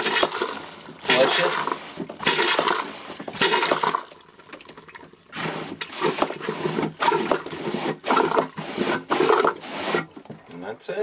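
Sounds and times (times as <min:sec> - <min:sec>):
toilet flushing: 0:00.0 - 0:10.7.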